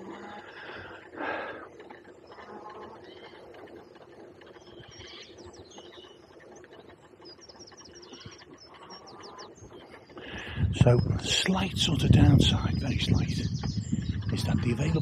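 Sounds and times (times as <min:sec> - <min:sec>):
bicycle rolling on gravel: 0:00.0 - 0:15.0
songbird chirping: 0:00.0 - 0:15.0.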